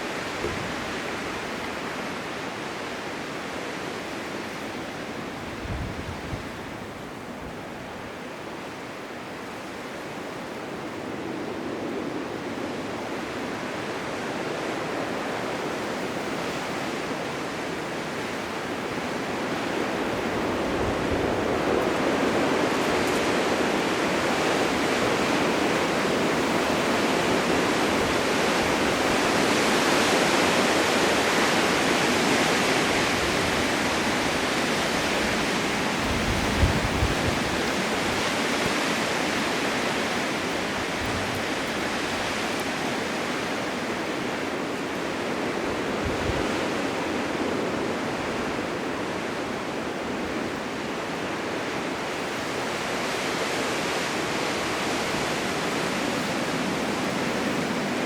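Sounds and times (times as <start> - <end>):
blizzard wind rushing: 0.0 - 58.0.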